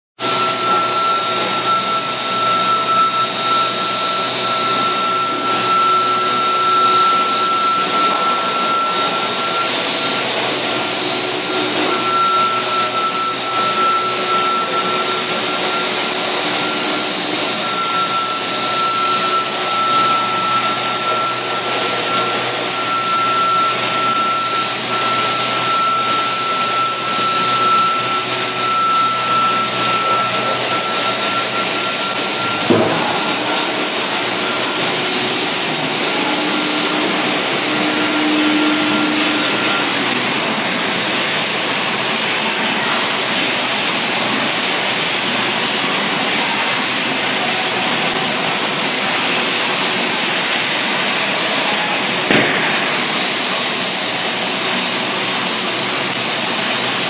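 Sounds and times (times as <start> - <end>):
factory machinery whine: 0.2 - 57.0.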